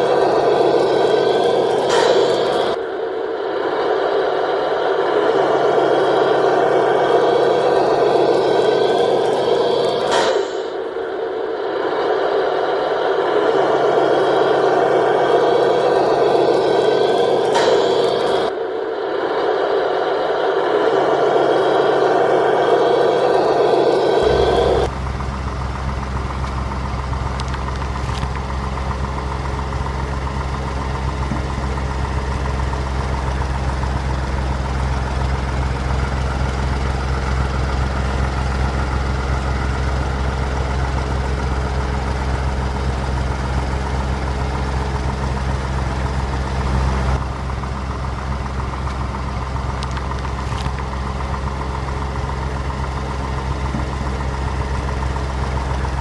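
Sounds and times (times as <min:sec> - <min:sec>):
heavy engine idling: 0:00.0 - 0:56.0.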